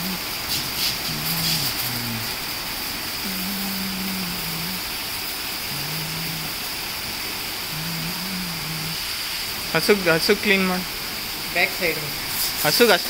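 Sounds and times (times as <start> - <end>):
cleaning pump running: 0.0 - 13.0
water jet hissing on rubber mats: 0.0 - 13.0.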